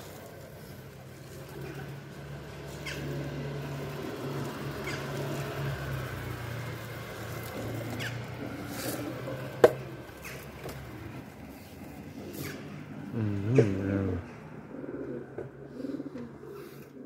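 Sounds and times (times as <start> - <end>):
street traffic hum: 0.0 - 17.0.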